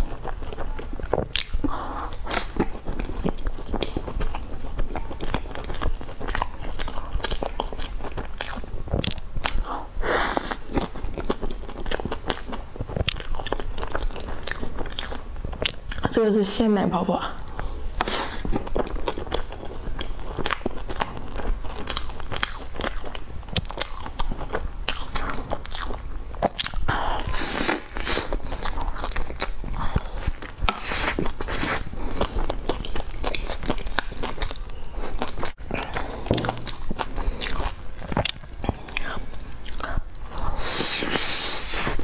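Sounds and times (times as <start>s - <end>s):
biting and chewing buns: 0.0s - 16.2s, 17.3s - 42.0s.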